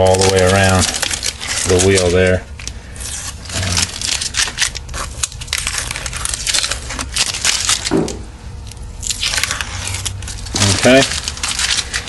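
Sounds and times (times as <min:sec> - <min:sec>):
tape crinkling and crackling: 0:00.0 - 0:12.0.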